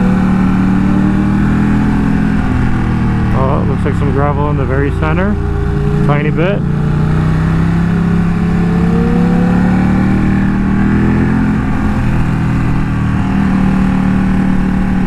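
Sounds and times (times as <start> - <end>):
motorcycle engine pulling hard: 0.0 - 15.0
wind rumble: 0.0 - 15.0.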